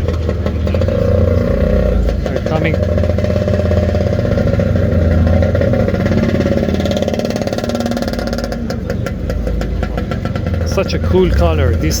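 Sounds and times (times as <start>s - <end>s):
car engines rolling past: 0.0s - 12.0s.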